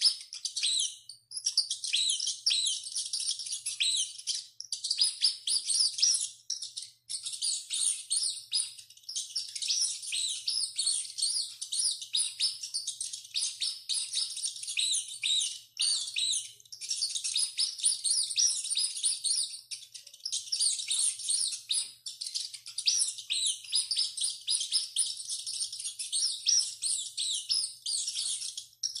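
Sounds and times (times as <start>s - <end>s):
rats squeaking: 0.0s - 29.0s.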